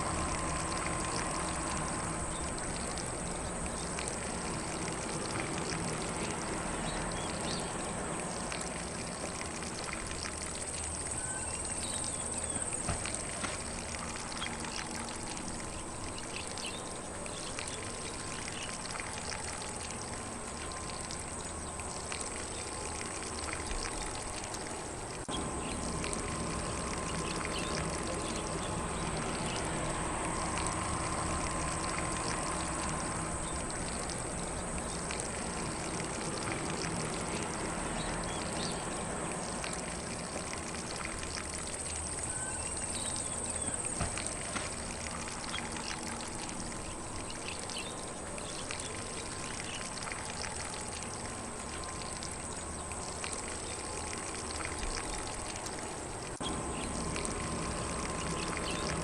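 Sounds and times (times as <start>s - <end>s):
faint birdsong: 0.0s - 59.0s
sprinkler spraying water on grass: 0.0s - 59.0s.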